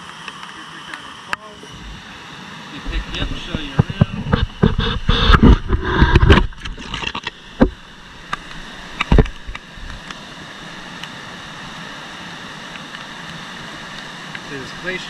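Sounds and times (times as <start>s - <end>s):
muffled rushing whitewater: 0.0s - 15.0s.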